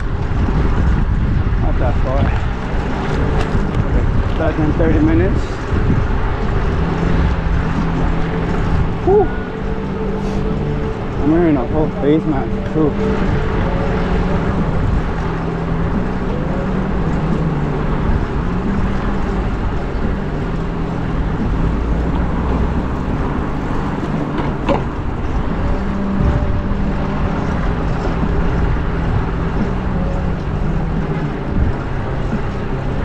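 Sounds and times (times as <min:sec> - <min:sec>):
traffic rumbling: 0:00.0 - 0:33.0
wind on microphone: 0:00.0 - 0:33.0.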